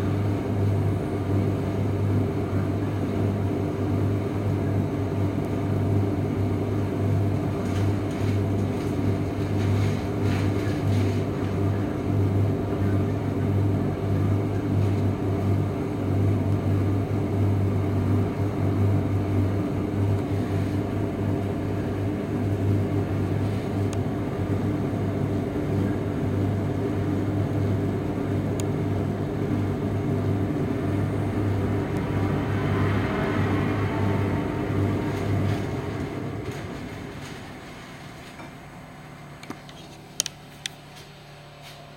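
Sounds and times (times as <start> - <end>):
tumble dryer humming: 0.0 - 41.9.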